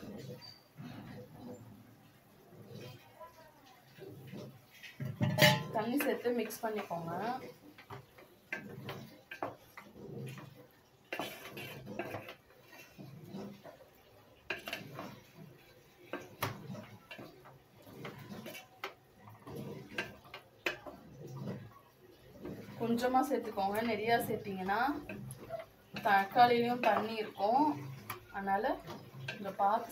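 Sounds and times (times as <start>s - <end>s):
spatula scraping metal pot: 0.0s - 1.8s, 2.6s - 3.2s, 3.8s - 29.9s
spatula stirring thick curry: 0.0s - 29.9s.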